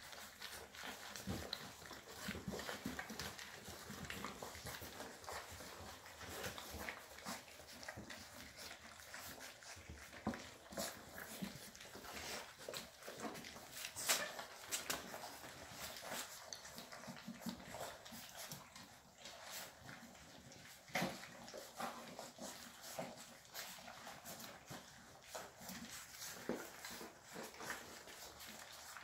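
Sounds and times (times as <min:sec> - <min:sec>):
puppies lapping and chewing: 0:00.0 - 0:29.0
puppy whimper: 0:00.0 - 0:29.0.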